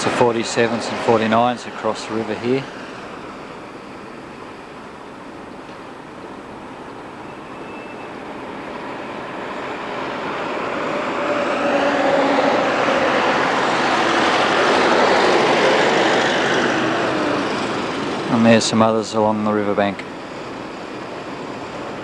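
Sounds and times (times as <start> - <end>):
faint steady whine: 0.0 - 11.2, 12.4 - 22.0
tram wheels rumbling on rails: 0.0 - 22.0.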